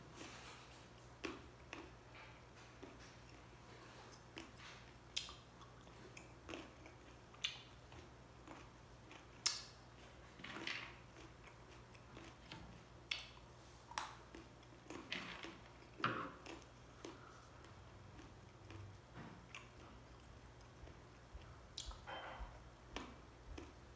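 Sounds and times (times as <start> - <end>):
person chewing grapes: 0.1 - 23.9.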